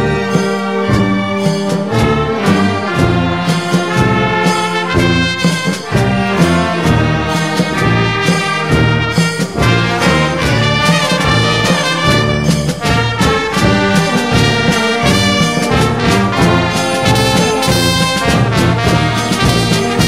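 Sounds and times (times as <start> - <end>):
brass music over a beat: 0.0 - 20.0.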